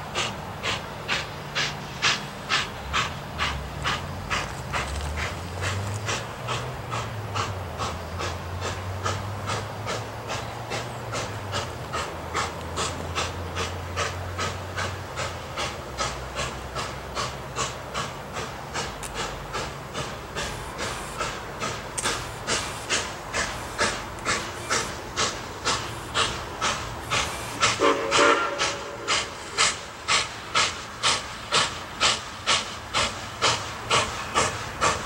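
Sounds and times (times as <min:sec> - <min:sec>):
steam locomotive chuffing: 0:00.0 - 0:35.0.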